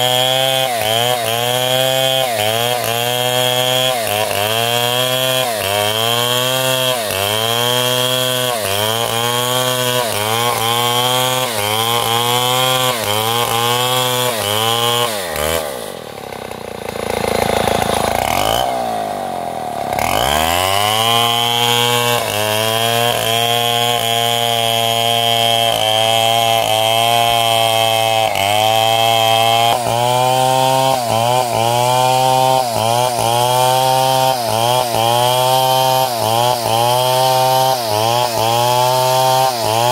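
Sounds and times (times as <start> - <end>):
power saw cutting timber: 0.0 - 39.9.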